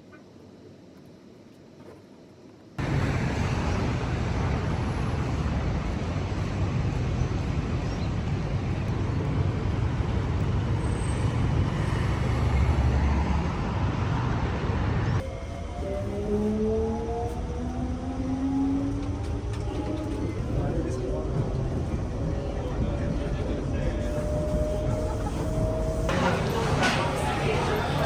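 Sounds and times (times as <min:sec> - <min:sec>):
road traffic rumble: 0:02.8 - 0:28.0.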